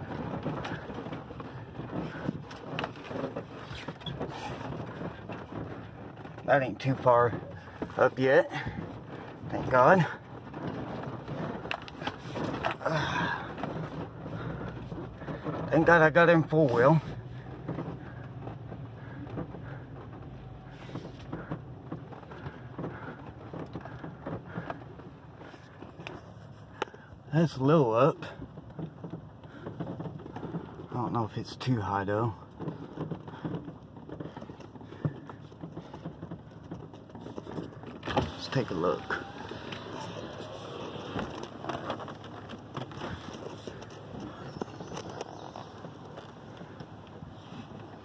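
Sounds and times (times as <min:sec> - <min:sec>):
truck engine rumble: 0:00.0 - 0:48.0
truck knocks and rattles: 0:00.0 - 0:48.0.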